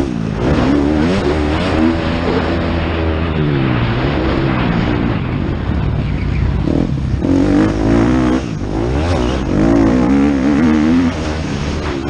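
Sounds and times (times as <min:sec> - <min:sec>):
motocross bike engine revving: 0:00.0 - 0:05.2, 0:06.6 - 0:12.0.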